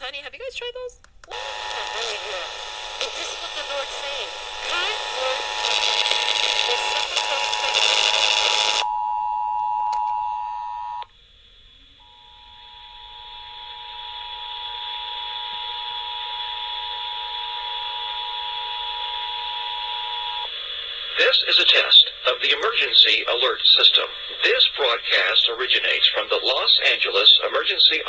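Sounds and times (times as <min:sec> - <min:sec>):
radio hiss: 0:01.4 - 0:08.9, 0:10.8 - 0:28.0.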